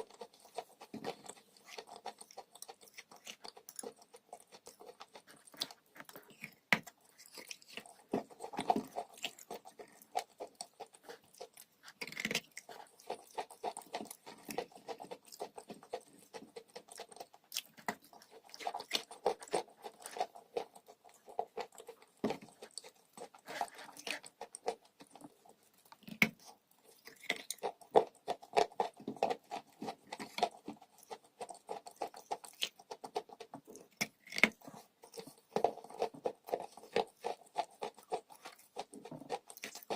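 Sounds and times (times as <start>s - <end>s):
person chewing crunchy chalk: 0.0s - 39.9s.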